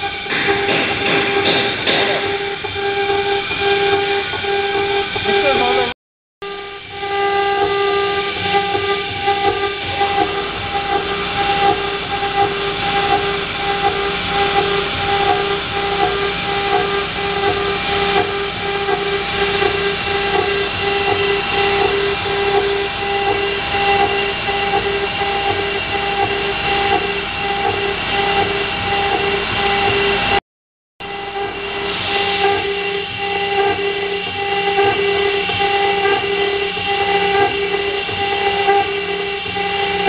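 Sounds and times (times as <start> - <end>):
router spindle whine: 0.0 - 30.4, 31.0 - 40.0.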